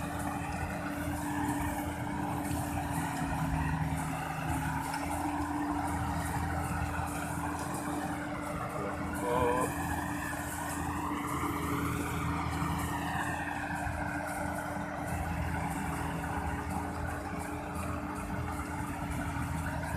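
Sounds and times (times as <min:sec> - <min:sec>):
combine harvester humming: 0:00.0 - 0:19.9.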